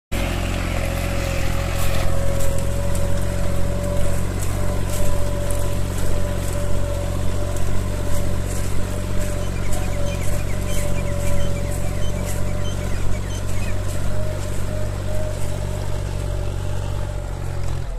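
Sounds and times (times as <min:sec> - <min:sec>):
tractor diesel engine running: 0:00.1 - 0:17.9
harrow clicks and rattles: 0:00.2 - 0:17.9.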